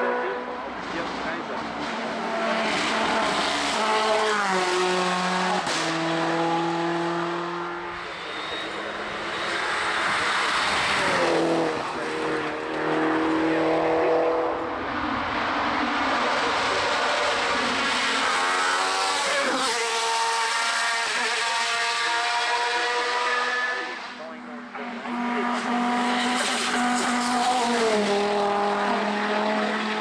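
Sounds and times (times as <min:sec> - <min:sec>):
racing car engine revving: 0:00.0 - 0:30.0.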